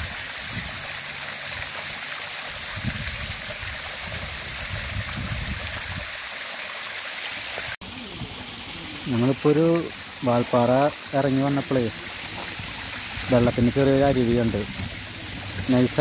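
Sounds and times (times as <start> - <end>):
waterfall splashing: 0.0 - 16.0.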